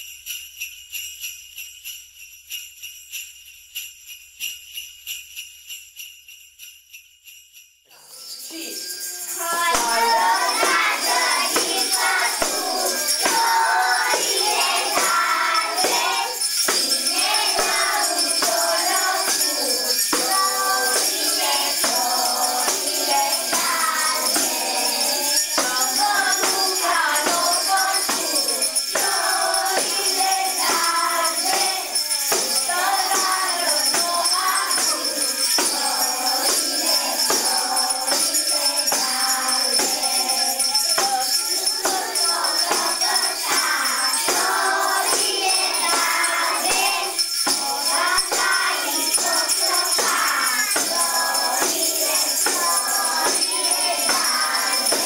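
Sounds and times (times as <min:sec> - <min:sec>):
jingle bells shaken: 0:00.0 - 0:55.0
children singing a carol: 0:08.0 - 0:55.0.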